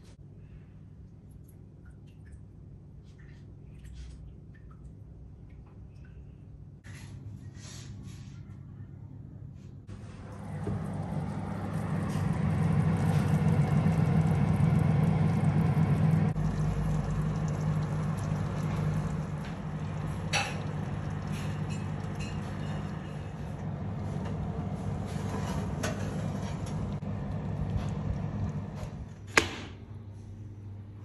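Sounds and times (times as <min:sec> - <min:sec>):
oven fan humming: 0:05.2 - 0:31.0.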